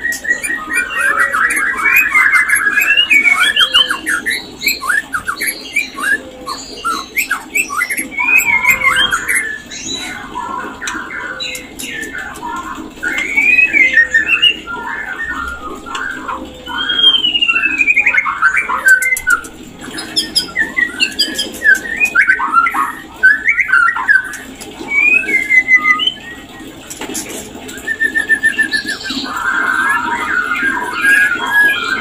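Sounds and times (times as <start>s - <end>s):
bird singing whistled phrases: 0.0s - 26.8s, 27.7s - 32.0s.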